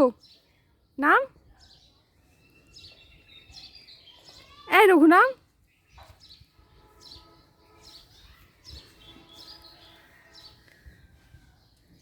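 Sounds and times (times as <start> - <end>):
faint bird chirping: 0.0 - 11.8.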